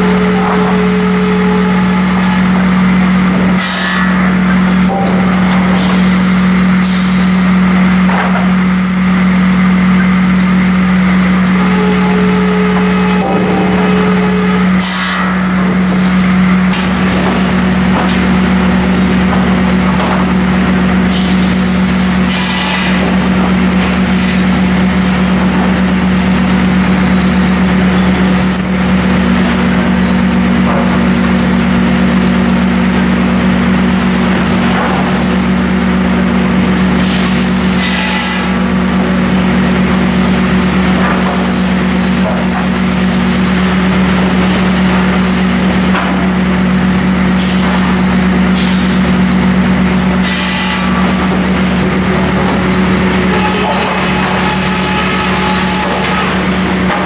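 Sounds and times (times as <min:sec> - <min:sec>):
higher machine tone: 0:00.0 - 0:57.0
lumber trimmer machine hum: 0:00.0 - 0:57.0.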